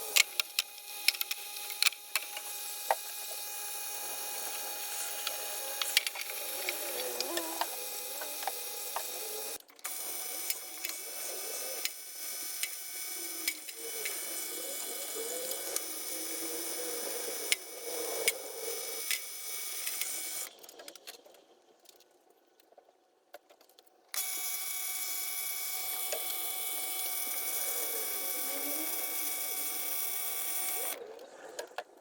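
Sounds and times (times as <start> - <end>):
machine tool motor whine: 0.0 - 20.6, 24.2 - 31.0.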